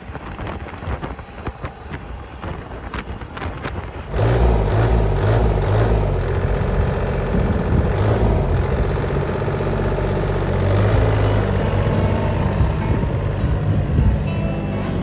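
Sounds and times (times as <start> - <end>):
tractor engine running: 0.0 - 15.0
wind buffeting microphone: 0.0 - 15.0.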